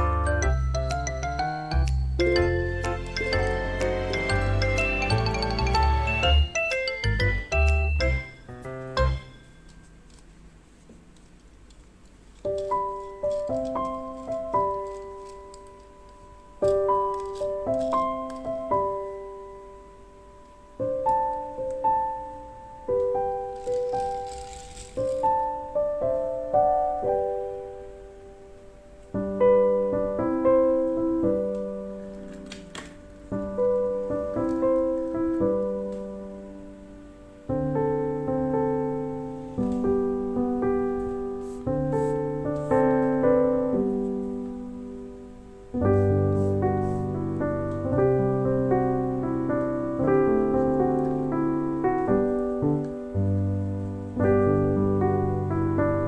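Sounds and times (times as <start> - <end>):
gentle piano melody: 0.0 - 10.9, 11.5 - 56.0.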